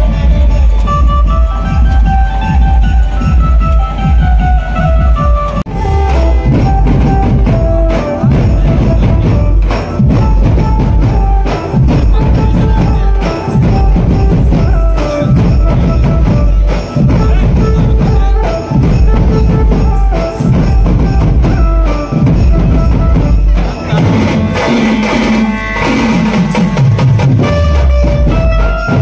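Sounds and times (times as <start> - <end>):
band music with fast drumming: 0.0 - 29.0
fast dense drumming: 0.0 - 29.0
held melody notes: 0.0 - 29.0.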